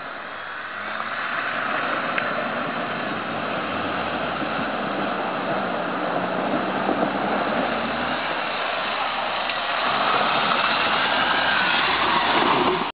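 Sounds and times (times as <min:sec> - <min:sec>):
car engine running: 0:00.0 - 0:12.9
water rushing and splashing: 0:00.0 - 0:12.9.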